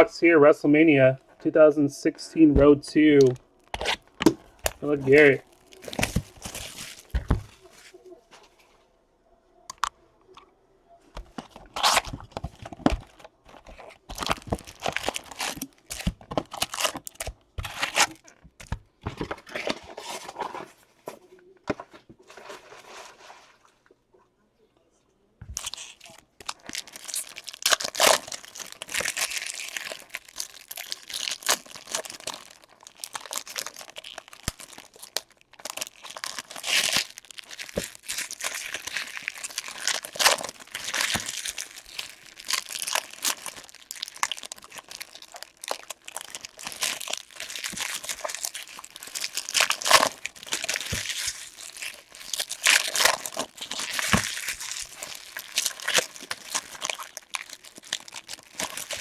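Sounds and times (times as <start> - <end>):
wrappers crinkling and tearing: 3.0 - 8.0, 11.2 - 20.8, 25.5 - 59.0.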